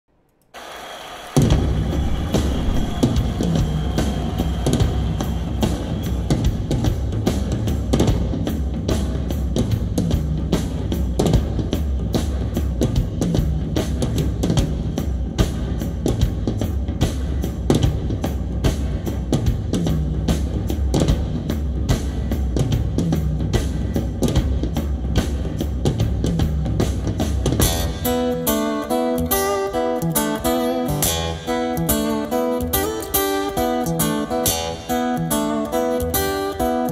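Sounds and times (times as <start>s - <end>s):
song with drum beat and deep bass: 1.5s - 36.9s.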